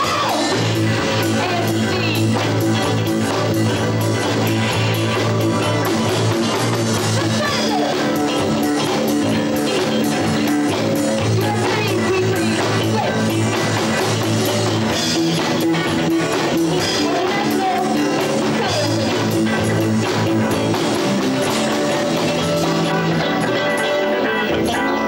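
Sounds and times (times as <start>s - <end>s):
drum kit: 0.0s - 25.0s
electric guitar: 0.0s - 25.0s.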